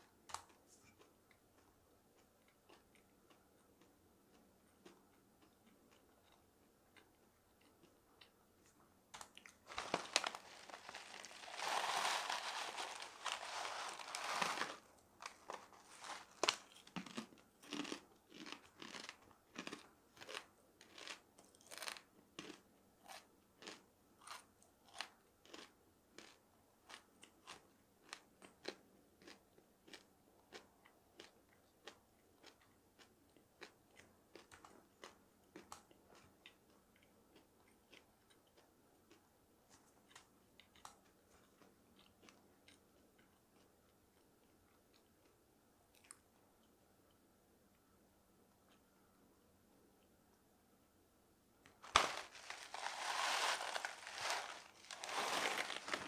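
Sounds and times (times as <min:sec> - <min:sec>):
crunchy chewing: 0:00.3 - 0:46.2, 0:51.8 - 0:56.0.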